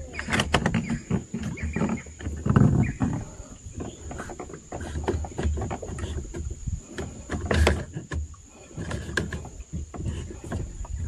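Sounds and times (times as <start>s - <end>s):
handling knocks and clicks: 0.0s - 11.0s.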